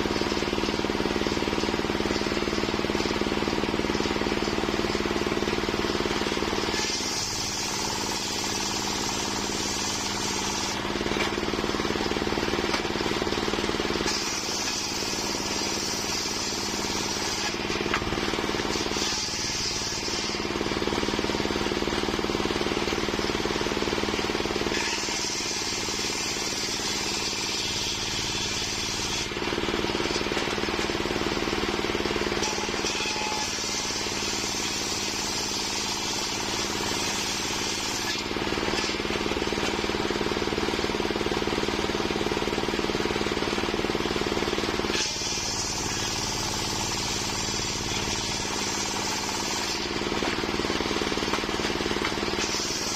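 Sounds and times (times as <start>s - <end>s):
saw blade cutting wood: 0.0s - 22.0s, 24.1s - 40.4s, 44.7s - 52.9s
circular sawmill running: 0.0s - 52.9s.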